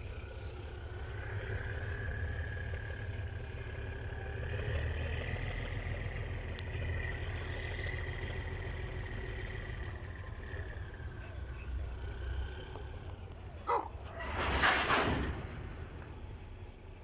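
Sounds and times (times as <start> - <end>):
train engine rumbling with whine: 0.0 - 17.0.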